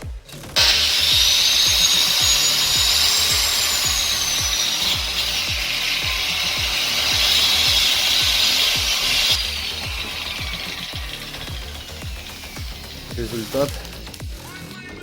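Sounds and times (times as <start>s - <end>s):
wire brush grinder on metal: 0.6s - 14.5s.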